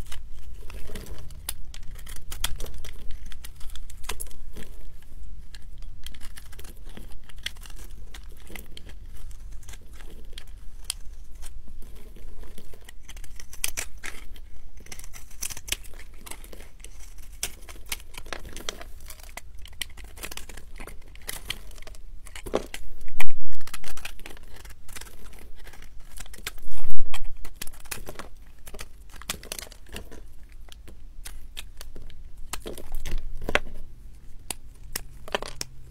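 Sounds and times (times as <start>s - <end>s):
knife scraping soap: 0.0s - 35.9s.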